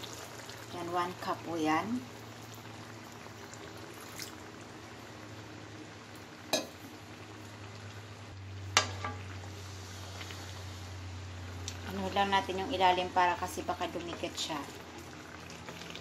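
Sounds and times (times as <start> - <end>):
pot simmering with bubbling hiss: 0.0 - 16.0.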